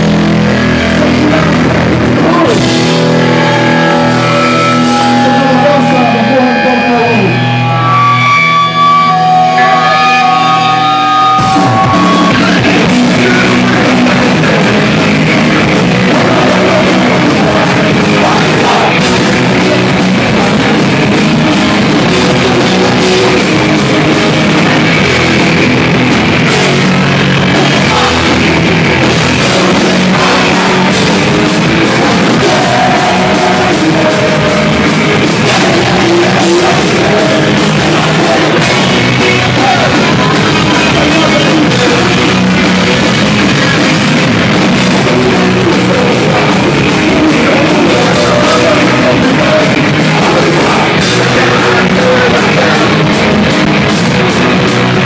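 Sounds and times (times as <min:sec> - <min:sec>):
punk band playing: 0:00.0 - 0:55.0.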